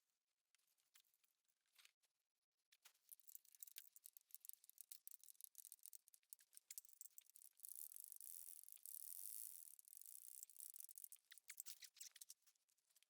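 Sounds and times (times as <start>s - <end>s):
faint small clicks and rustles: 0.4s - 13.0s.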